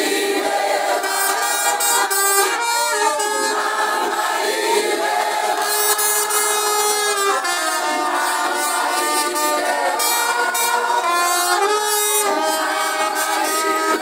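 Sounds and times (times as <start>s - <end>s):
group of people singing: 0.0s - 14.0s.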